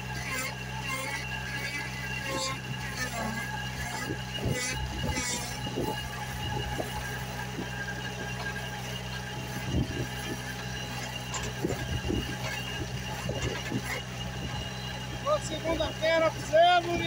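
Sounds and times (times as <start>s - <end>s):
drilling rig motor humming: 0.0s - 17.0s.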